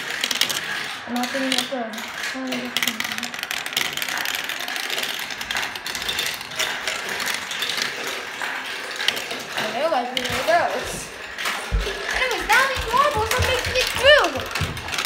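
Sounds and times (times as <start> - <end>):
marbles rattling down marble run: 0.0 - 15.0.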